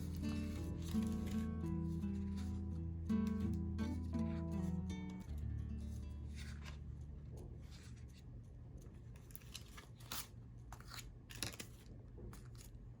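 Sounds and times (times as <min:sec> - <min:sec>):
paper rustling and crackling: 0:00.0 - 0:04.4, 0:05.8 - 0:13.0
low steady hum: 0:00.0 - 0:13.0.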